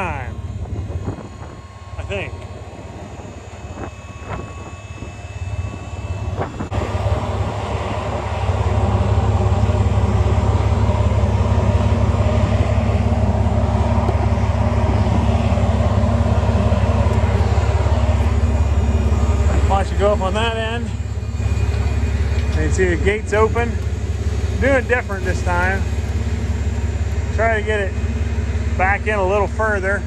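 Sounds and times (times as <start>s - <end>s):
hydraulic pump humming: 0.0s - 30.0s.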